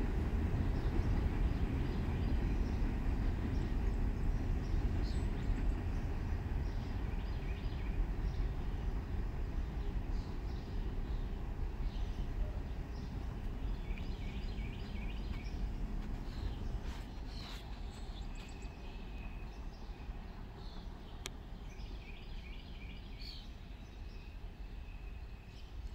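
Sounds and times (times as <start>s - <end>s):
train rumbling: 0.0s - 25.9s
birds chirping: 0.6s - 25.8s.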